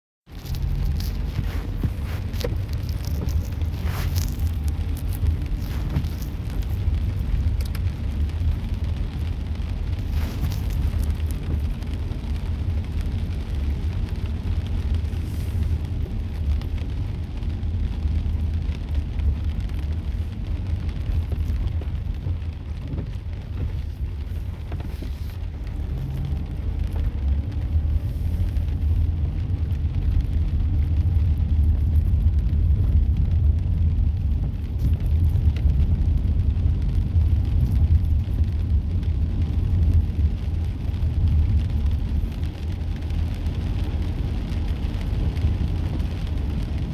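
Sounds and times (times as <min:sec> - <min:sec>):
steady low rumble: 0:00.2 - 0:46.9
light rain hiss: 0:00.3 - 0:46.9.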